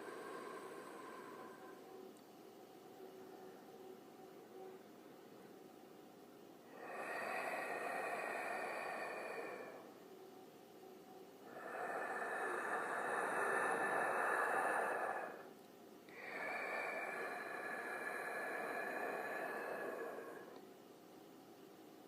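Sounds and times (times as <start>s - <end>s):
slow drawn-out breathing: 0.0s - 5.8s, 6.6s - 21.1s.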